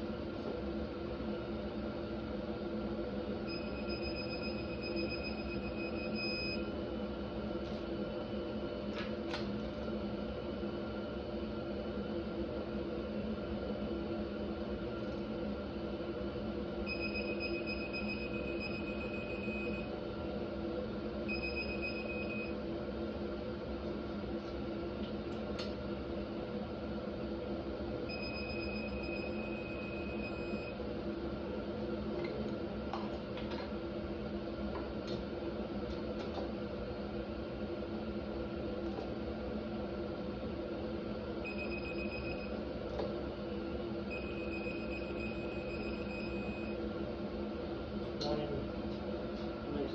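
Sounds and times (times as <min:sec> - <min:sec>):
steady hum: 0:00.0 - 0:49.9.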